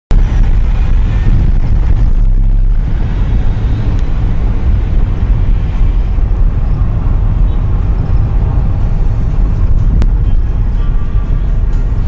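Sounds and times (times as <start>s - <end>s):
car engine and tyre rumble: 0.1s - 12.0s.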